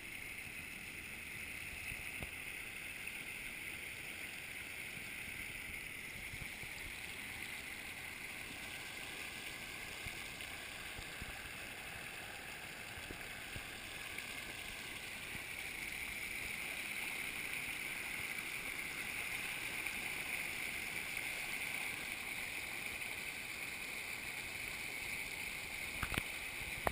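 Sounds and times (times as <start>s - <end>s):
creek water rushing: 0.0s - 26.9s.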